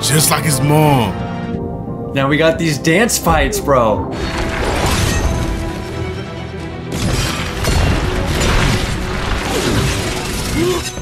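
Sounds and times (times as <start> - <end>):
film score music: 0.0 - 11.0.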